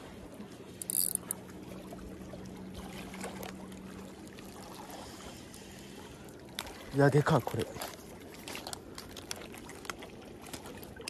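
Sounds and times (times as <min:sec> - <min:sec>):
water lapping among concrete blocks: 0:00.0 - 0:11.0.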